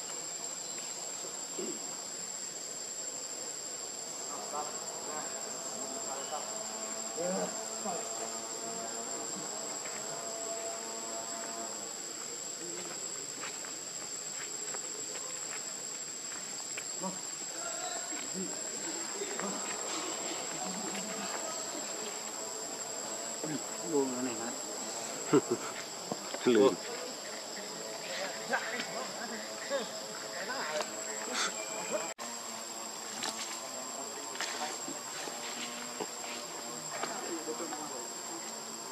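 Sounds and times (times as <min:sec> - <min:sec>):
insects shrilling: 0:00.0 - 0:38.9.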